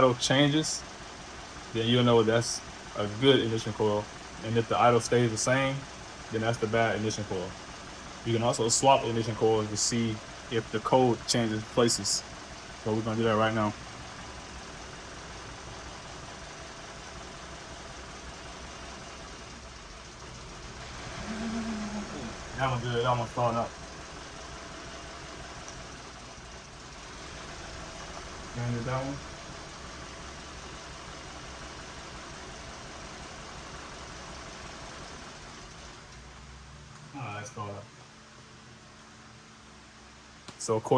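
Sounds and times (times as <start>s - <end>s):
car engine idling: 0.0s - 40.4s.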